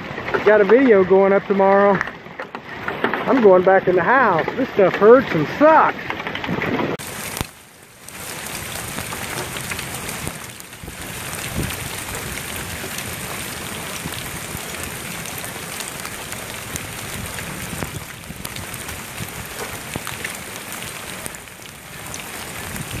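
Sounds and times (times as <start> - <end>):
rain and hail on lawn: 0.0 - 23.0.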